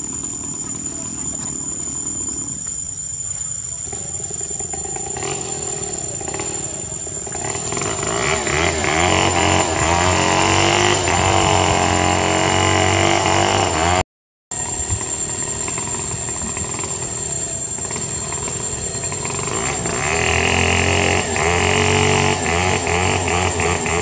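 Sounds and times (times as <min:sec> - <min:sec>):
motor engine running: 0:00.0 - 0:14.0, 0:14.6 - 0:24.0.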